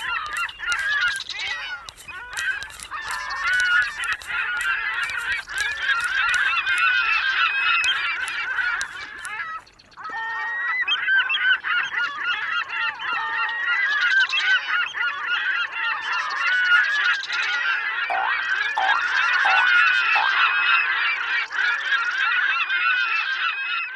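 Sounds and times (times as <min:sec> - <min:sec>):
flock of birds calling: 0:00.0 - 0:23.9.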